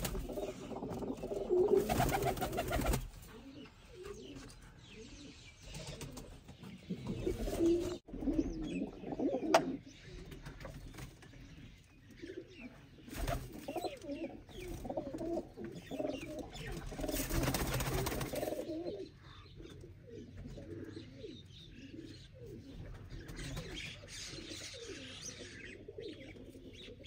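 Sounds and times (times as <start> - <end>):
pigeons cooing: 0.0 - 10.8, 12.1 - 27.0.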